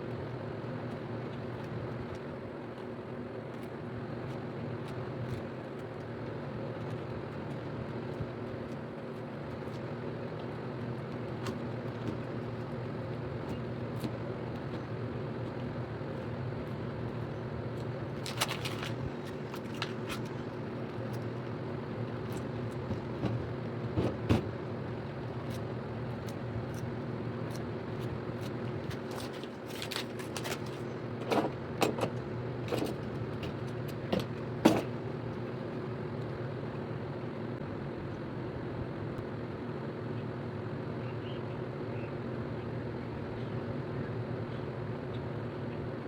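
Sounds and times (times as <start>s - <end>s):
low mechanical hum: 0.0s - 46.0s.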